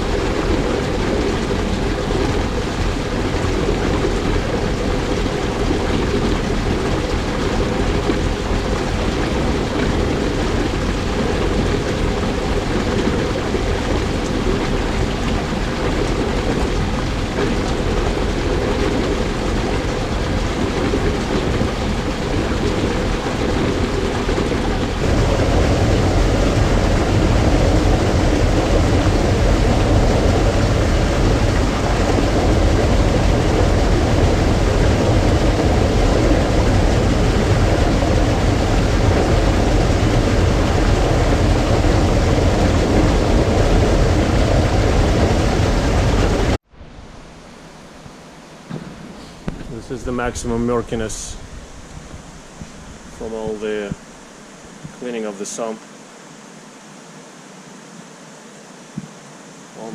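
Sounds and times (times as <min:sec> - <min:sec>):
aquarium filter water rushing: 0:00.0 - 0:57.6.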